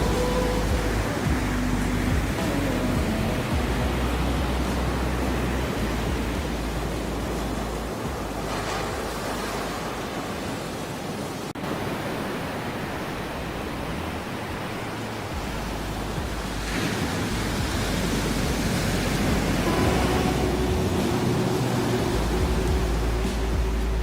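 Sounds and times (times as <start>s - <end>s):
ocean waves washing: 0.0s - 24.0s.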